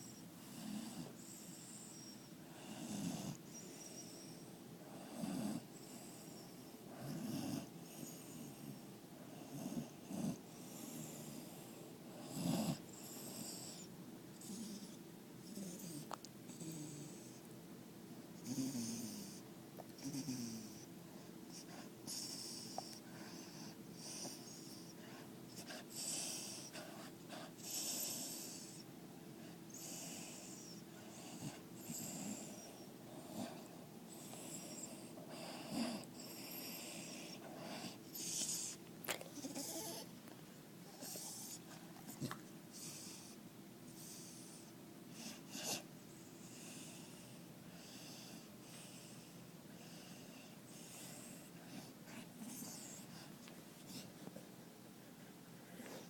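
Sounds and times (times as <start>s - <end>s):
dog snoring and wheezing: 0.0s - 17.5s, 18.4s - 20.9s, 21.5s - 40.1s, 40.8s - 53.3s.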